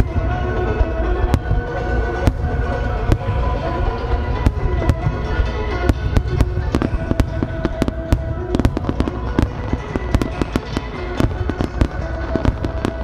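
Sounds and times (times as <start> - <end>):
firework bangs and crackles: 0.0 - 13.0
music with long held tones: 0.0 - 13.0.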